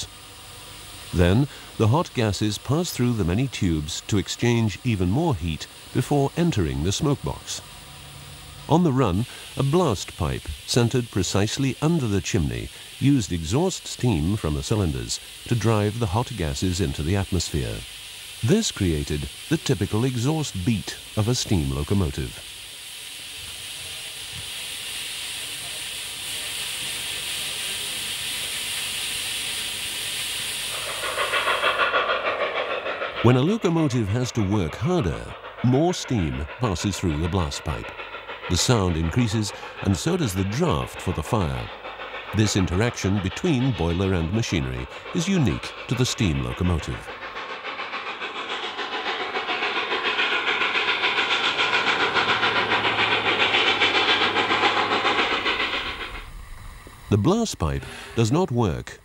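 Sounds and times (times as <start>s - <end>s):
steam hissing: 0.0s - 59.0s
steam locomotive exhaust beat: 0.0s - 59.0s.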